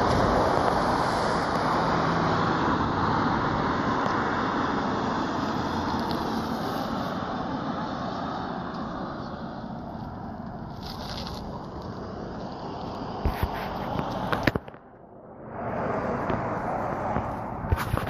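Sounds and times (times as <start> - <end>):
vehicle passing on road: 0.0 - 18.0.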